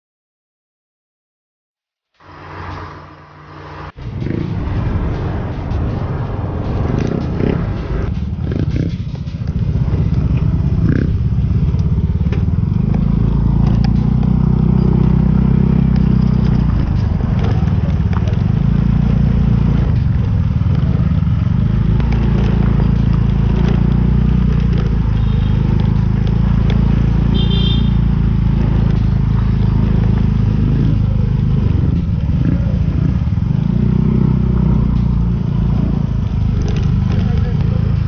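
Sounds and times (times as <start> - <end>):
motorcycle engine running: 2.2 - 38.0
wind and road noise: 2.2 - 38.0.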